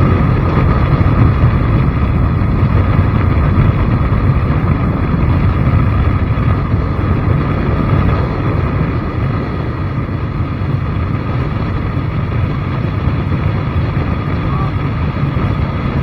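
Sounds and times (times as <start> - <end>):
vehicle running noise: 0.0 - 16.0
wind buffeting microphone: 0.0 - 16.0.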